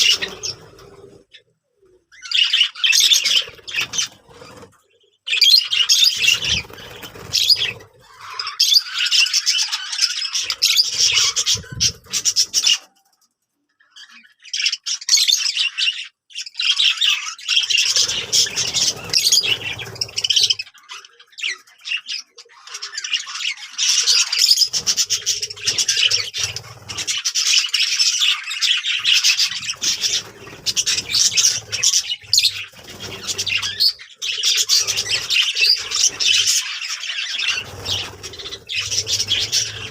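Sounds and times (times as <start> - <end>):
budgerigars chattering and warbling: 0.0 - 13.0, 13.8 - 39.9.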